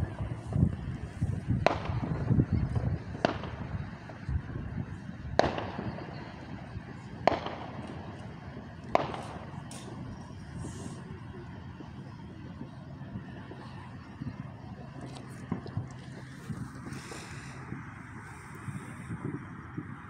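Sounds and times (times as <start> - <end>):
fireworks bangs: 0.0 - 20.0
low background rumble: 0.0 - 20.0.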